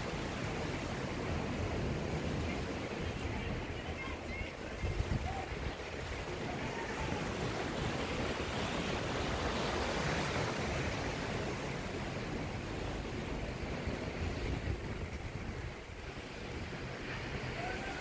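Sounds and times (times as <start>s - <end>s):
sea surf washing on beach: 0.0s - 18.0s
wind rumble on microphone: 0.0s - 18.0s.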